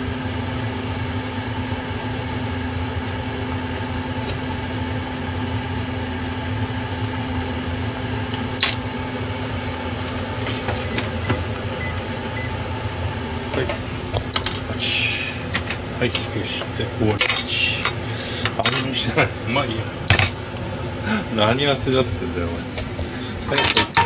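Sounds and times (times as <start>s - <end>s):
electric fan hum: 0.0s - 24.0s.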